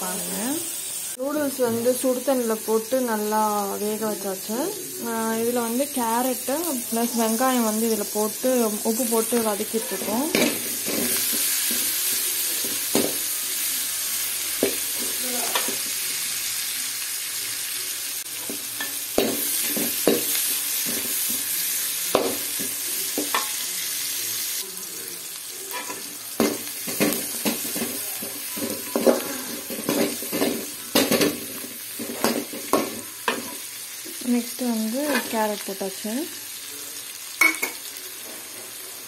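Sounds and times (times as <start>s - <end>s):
onions sizzling in oil: 0.0s - 39.0s.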